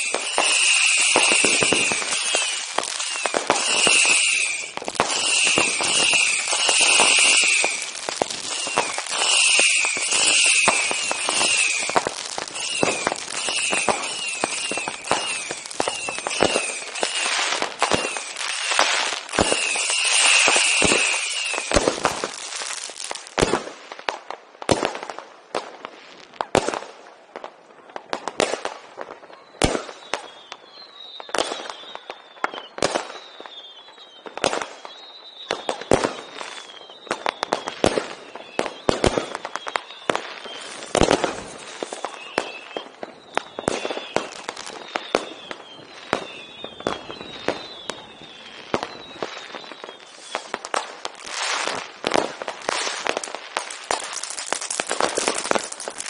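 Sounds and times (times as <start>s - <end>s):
falling firework whistles: 0.0s - 23.7s, 28.0s - 56.0s
firework bangs and crackles: 0.0s - 56.0s.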